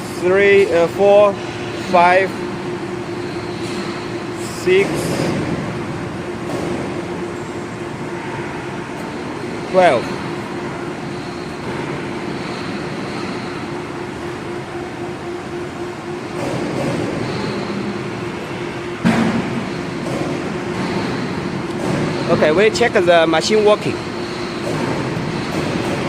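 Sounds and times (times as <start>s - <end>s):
steady machinery hum: 0.0s - 26.0s.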